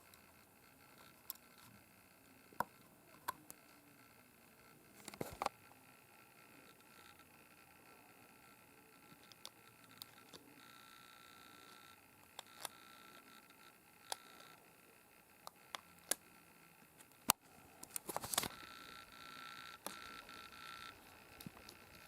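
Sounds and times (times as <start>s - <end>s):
faint high-pitched whine: 0.0s - 22.0s.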